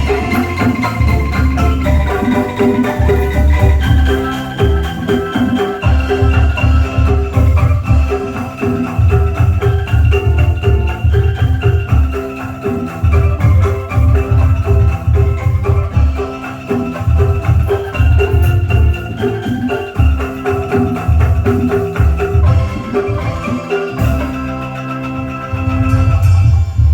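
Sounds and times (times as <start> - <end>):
bamboo mallet instrument notes: 0.0 - 26.9.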